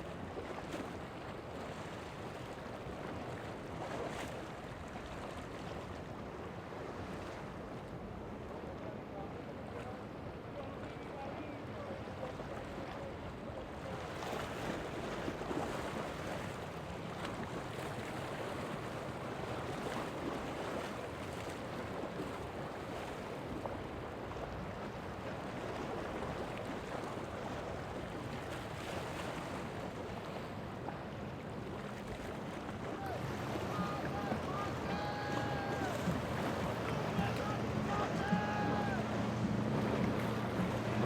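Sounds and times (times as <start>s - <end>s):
surf: 0.0s - 41.0s
wind: 0.0s - 41.0s.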